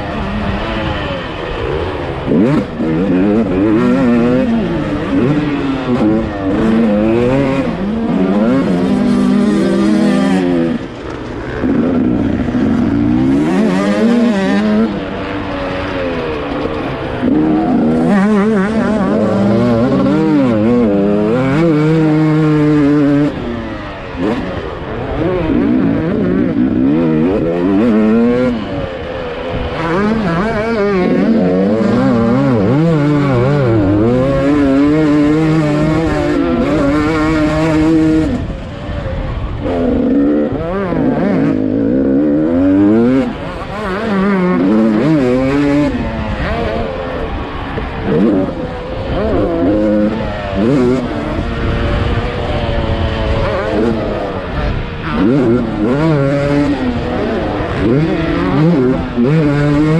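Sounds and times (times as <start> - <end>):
two-stroke motorbike engine racing: 0.0 - 59.9.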